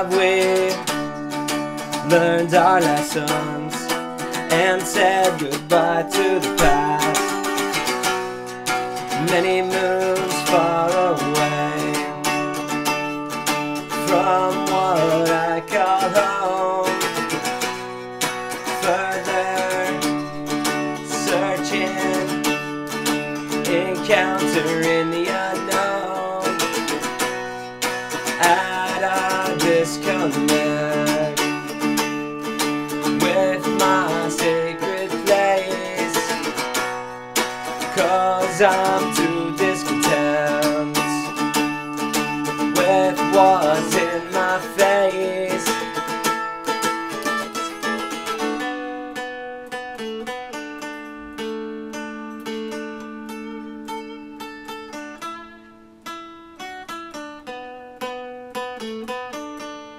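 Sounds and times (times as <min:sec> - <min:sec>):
rock music with electric guitar: 0:00.0 - 0:49.0.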